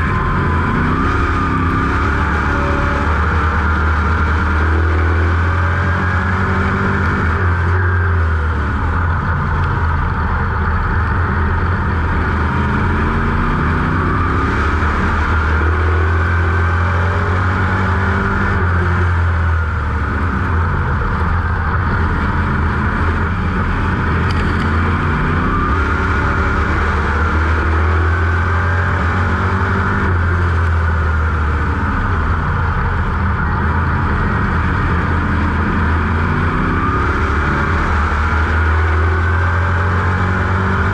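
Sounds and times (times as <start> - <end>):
race car engine at full load: 0.0 - 40.9.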